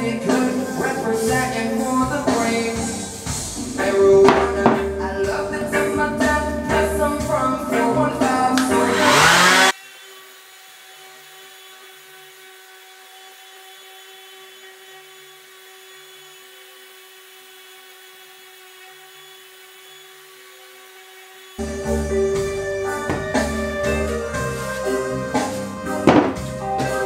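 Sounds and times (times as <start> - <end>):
orbital sander whining: 0.0 - 27.0.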